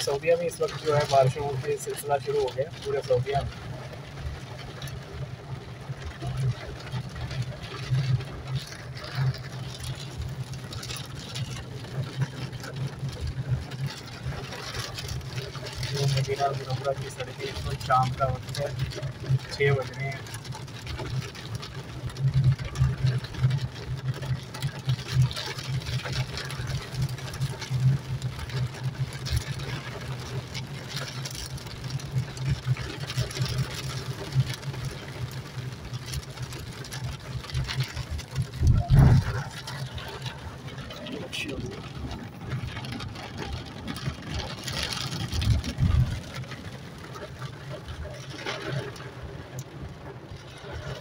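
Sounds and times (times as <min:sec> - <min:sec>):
car engine hum: 0:00.0 - 0:51.0
heavy rain on car roof: 0:00.0 - 0:51.0
tyres on wet road: 0:00.0 - 0:51.0.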